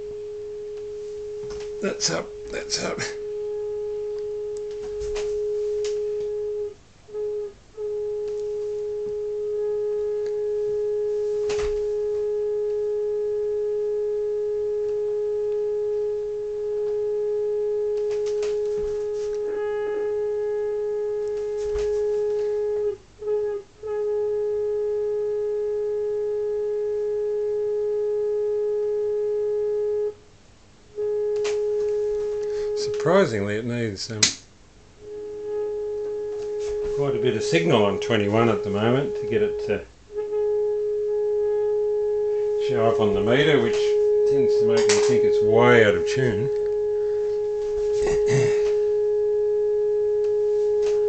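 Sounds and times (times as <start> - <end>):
steady test tone from speaker: 0.0 - 51.0.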